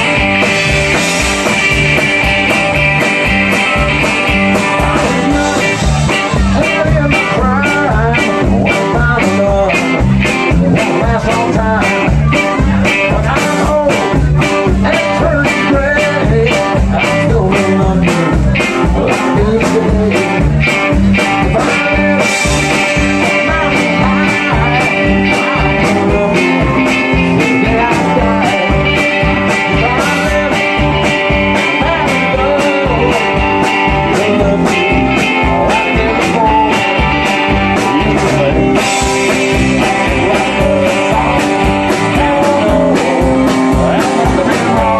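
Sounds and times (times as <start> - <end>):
live band playing: 0.0 - 44.9
steady drum beat: 0.0 - 44.9.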